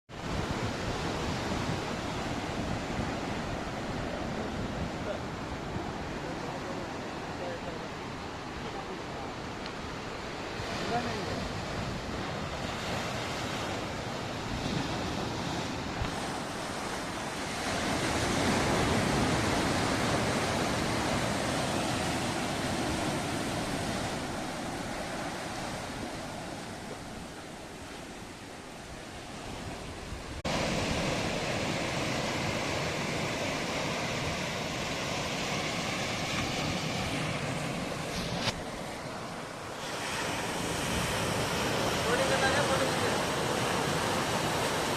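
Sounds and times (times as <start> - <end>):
waves washing against rocky shore: 0.1 - 44.9.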